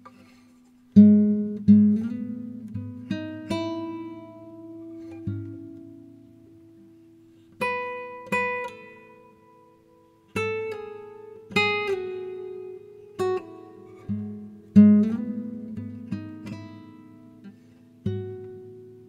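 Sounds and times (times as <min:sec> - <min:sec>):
acoustic guitar plucked notes: 0:00.9 - 0:19.0.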